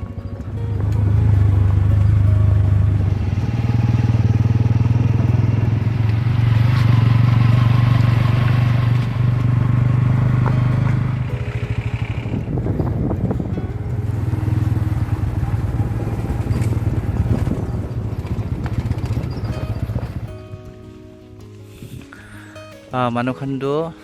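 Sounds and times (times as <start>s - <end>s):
motorcycle engine running: 0.0s - 22.1s.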